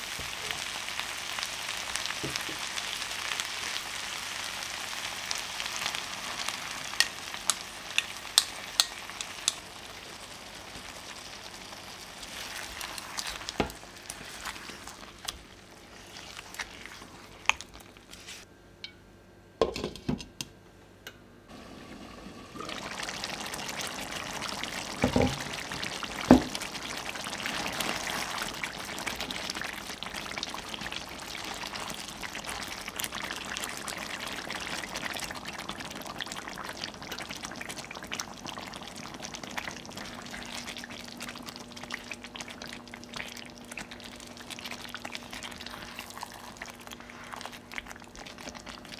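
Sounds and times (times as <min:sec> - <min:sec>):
chicken sizzling in a pan: 0:00.0 - 0:18.5, 0:21.5 - 0:48.9
gravy simmering: 0:00.0 - 0:18.5, 0:21.5 - 0:48.9.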